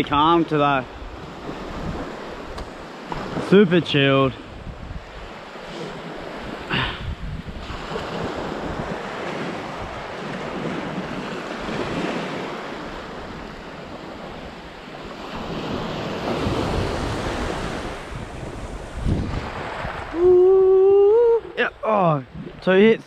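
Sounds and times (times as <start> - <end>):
small waves breaking on sand: 0.0 - 22.7
wind on microphone: 0.9 - 3.5, 4.3 - 22.7.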